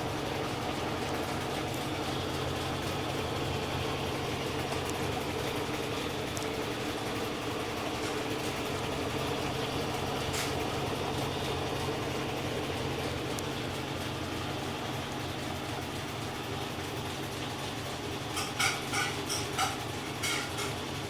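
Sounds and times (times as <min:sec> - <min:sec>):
washing machine spin cycle: 0:00.0 - 0:21.0.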